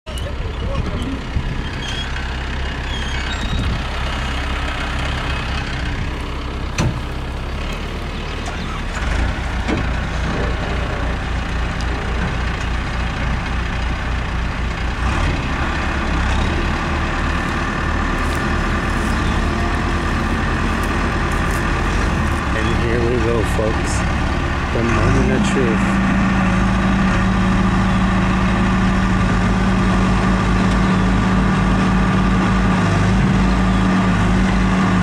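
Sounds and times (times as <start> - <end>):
diesel engine running under load: 0.1 - 35.0.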